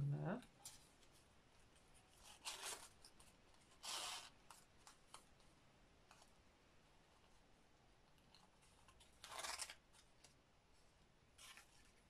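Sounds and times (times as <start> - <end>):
ribbon and paper rustling: 0.6 - 6.4, 8.1 - 12.0.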